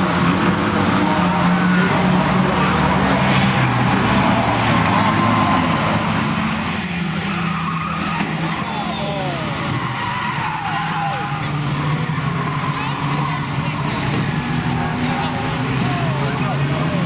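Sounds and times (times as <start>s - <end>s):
race car engines running: 0.0s - 17.0s
tyres skidding: 0.0s - 17.0s.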